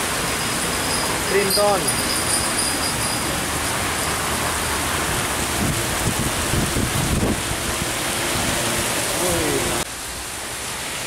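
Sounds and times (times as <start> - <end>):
heavy rain falling: 0.0 - 11.0
vehicles passing on wet road: 0.0 - 11.0.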